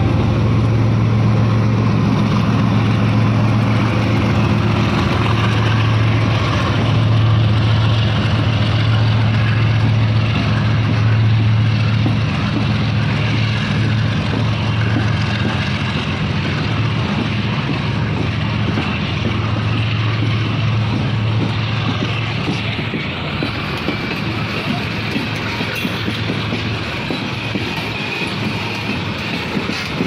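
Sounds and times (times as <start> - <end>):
diesel locomotive drone: 0.0 - 30.0
freight train rolling on rails: 0.0 - 30.0
wheels ticking over track: 0.0 - 30.0.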